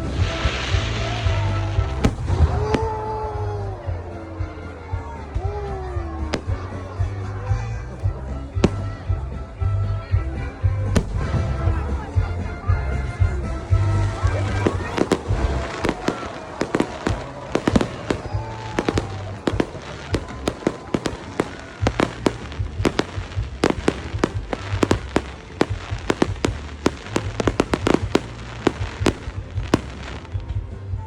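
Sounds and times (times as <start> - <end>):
fireworks exploding: 0.0 - 3.2, 5.3 - 9.4, 10.8 - 12.4, 13.0 - 30.8.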